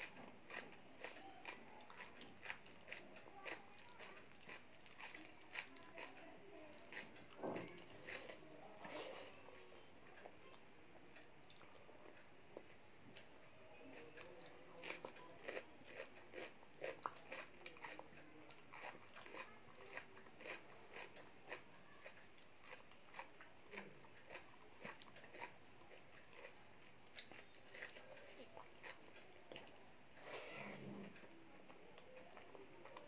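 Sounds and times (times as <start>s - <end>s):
chewing with wet mouth smacks: 0.1s - 12.2s, 13.9s - 30.3s.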